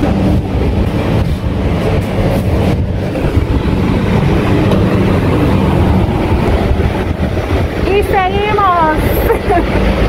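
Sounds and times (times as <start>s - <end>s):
bus engine rumbling: 0.0s - 10.0s.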